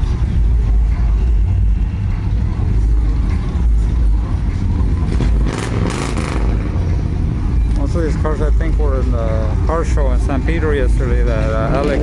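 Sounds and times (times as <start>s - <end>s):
car engines in slow traffic: 0.0s - 12.0s.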